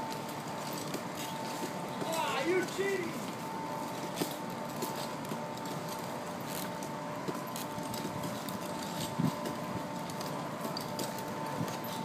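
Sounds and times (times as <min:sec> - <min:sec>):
faint constant hum: 0:00.0 - 0:12.0.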